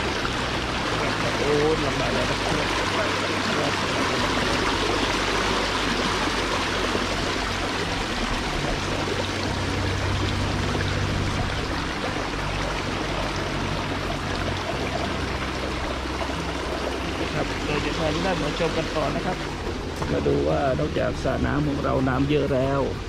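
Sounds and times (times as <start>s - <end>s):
water rushing along channel: 0.0s - 23.0s.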